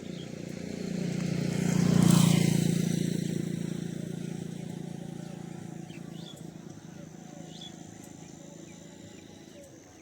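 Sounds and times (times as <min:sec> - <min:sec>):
vehicle engine passing by: 0:00.0 - 0:09.5.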